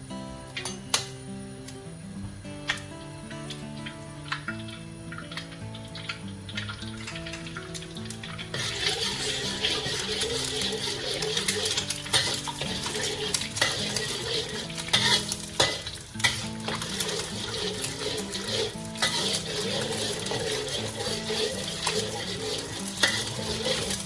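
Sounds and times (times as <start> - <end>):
eggs sizzling in oil: 2.3 - 24.0
utensil scraping and knocking wok: 2.7 - 24.0.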